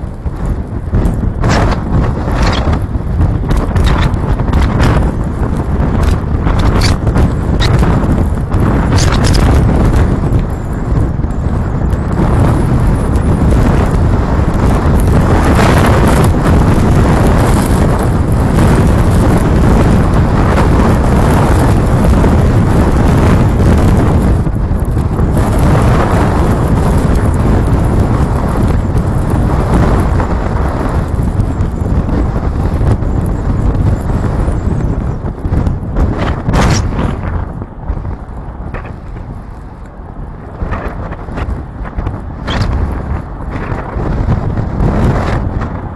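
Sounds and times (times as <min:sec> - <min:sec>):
car road noise: 0:00.0 - 0:45.9
wind buffeting microphone: 0:00.0 - 0:45.9.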